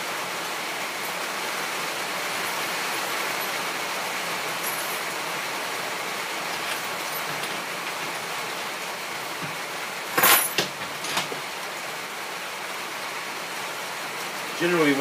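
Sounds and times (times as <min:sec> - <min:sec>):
rain on a metal roof: 0:00.0 - 0:15.0.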